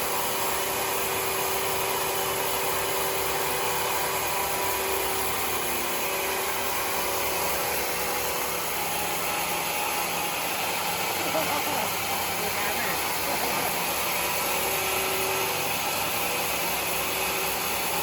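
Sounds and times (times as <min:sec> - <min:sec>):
high machine whine: 0:00.0 - 0:18.0
sawmill machine drone: 0:00.0 - 0:18.0.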